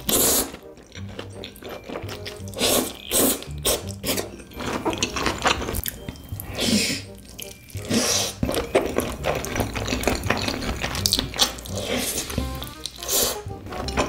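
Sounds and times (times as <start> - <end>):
background music: 0.0 - 14.0
slurping and chewing noodles: 0.0 - 14.0.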